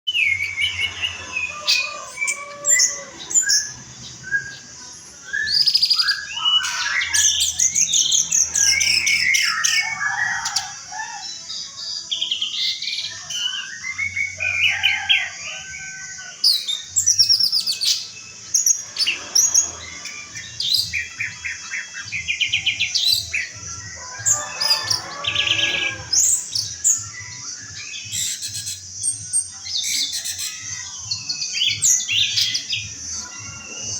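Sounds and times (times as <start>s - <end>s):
thrush singing: 0.1s - 33.9s.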